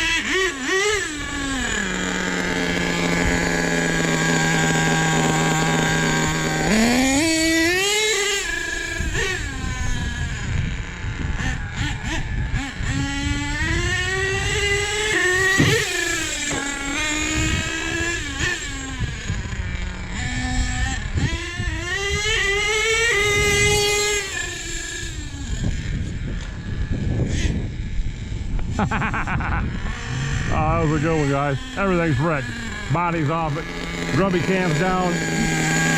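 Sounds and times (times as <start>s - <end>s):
small nitro engine revving: 0.0s - 35.9s.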